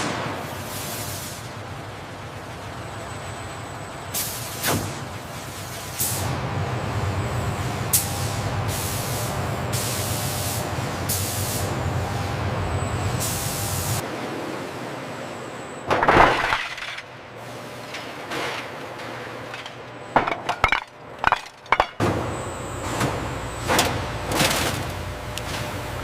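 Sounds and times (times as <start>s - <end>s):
factory machinery rumble: 0.0s - 26.0s.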